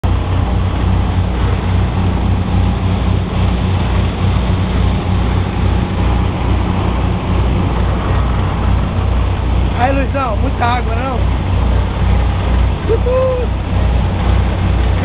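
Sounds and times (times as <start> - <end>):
constant rushing noise: 0.0 - 15.0
motorboat engine droning: 0.0 - 15.0.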